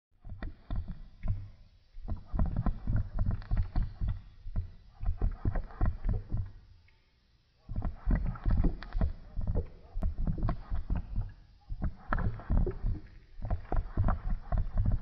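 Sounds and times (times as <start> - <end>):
water bubbling in a bong: 0.2 - 6.6, 7.7 - 15.0.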